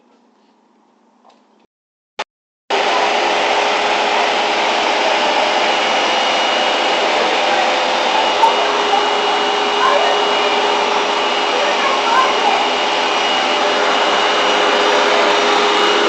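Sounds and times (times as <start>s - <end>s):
vacuum cleaner running: 2.7s - 16.0s.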